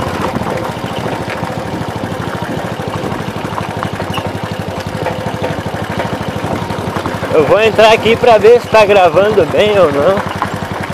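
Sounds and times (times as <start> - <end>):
motorcycle engine running steadily: 0.0 - 10.9.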